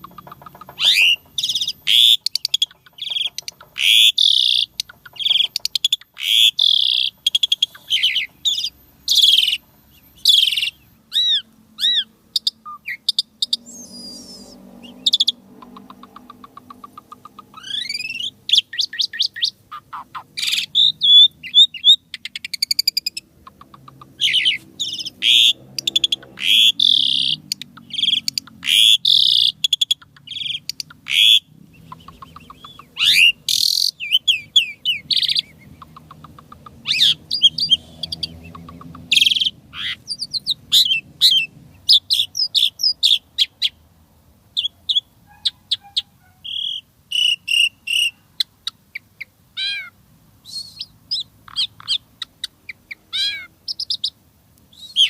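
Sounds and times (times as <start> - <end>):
starling singing whistles and trills: 0.0 - 43.8, 44.6 - 55.0.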